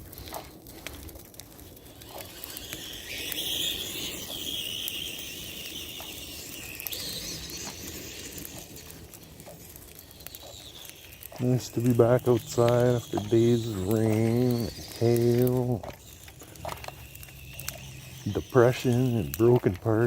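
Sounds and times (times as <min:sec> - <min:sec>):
bonfire crackling and popping: 0:00.0 - 0:20.0
fire hissing: 0:00.0 - 0:20.0.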